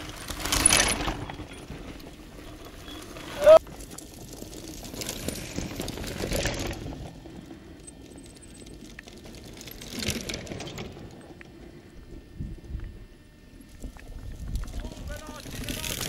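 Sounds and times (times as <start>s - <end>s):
bike chains rattling: 0.0s - 11.4s, 13.7s - 16.0s
bike tyres rolling on dirt: 0.0s - 16.0s.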